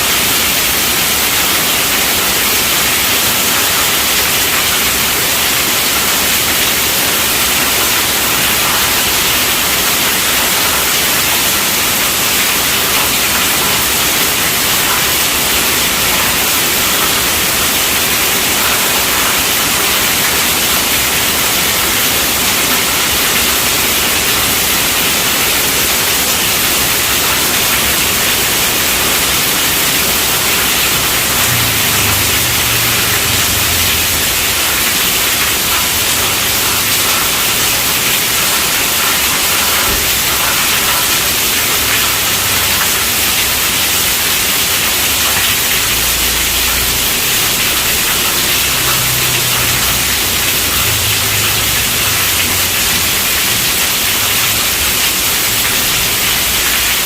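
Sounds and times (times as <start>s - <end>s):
heavy rain on a tent roof: 0.0s - 57.0s.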